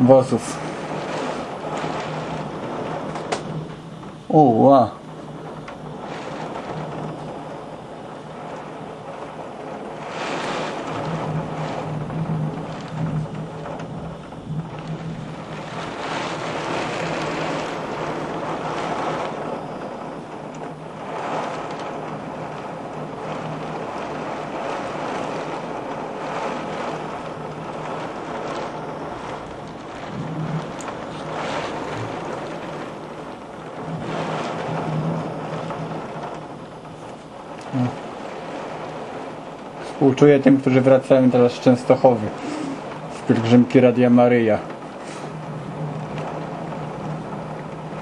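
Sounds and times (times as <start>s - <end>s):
heavy rain: 0.0s - 48.0s
low steady hum: 0.0s - 48.0s
storm wind: 0.0s - 48.0s.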